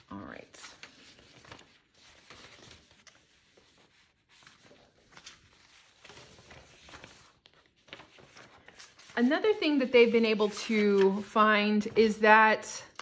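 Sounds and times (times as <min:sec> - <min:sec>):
faint paper rustling: 0:00.0 - 0:13.0.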